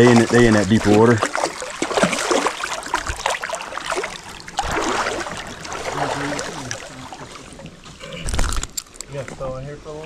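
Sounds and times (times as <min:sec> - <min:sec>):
water splashing: 0:00.0 - 0:09.0.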